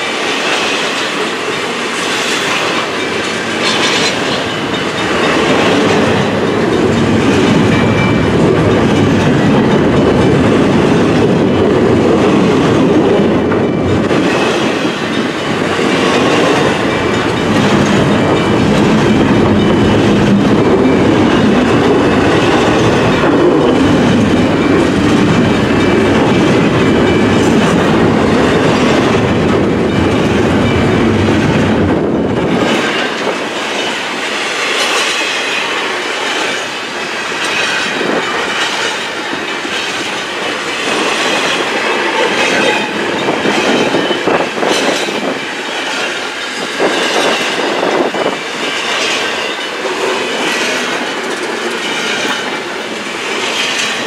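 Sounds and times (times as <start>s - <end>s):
train wheels clicking over rail joints: 0.0s - 54.0s.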